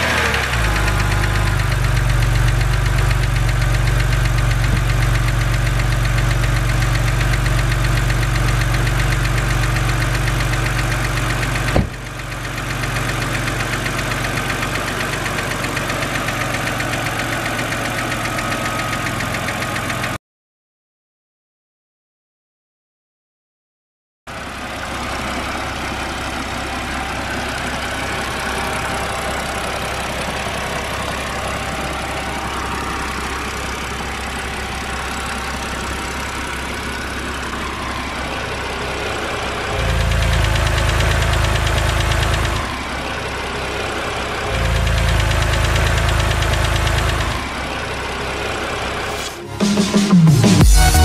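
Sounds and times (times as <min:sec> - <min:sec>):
car engine idling: 0:00.0 - 0:20.2, 0:24.3 - 0:51.0.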